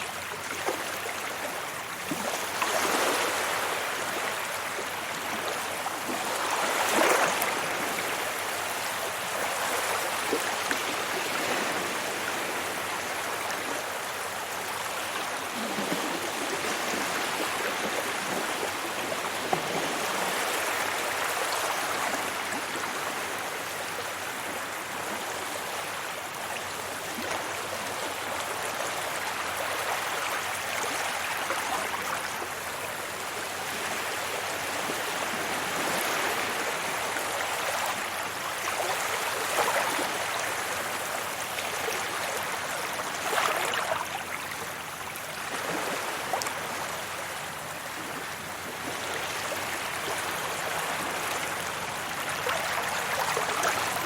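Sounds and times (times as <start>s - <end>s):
sea waves washing onto beach: 0.0s - 54.0s.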